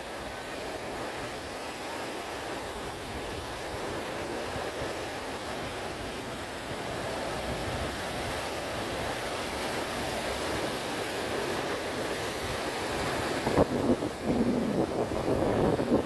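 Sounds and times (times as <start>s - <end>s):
surf breaking over rocks: 0.1s - 16.0s
wind buffeting microphone: 0.1s - 16.0s.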